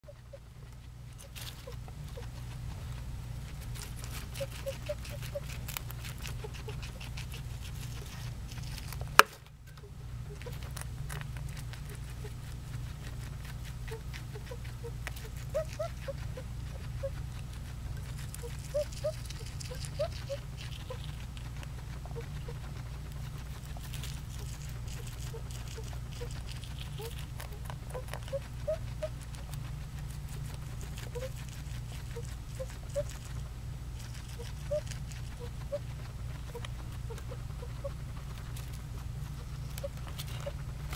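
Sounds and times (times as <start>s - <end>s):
guinea pig crunching dry food: 0.0s - 40.9s.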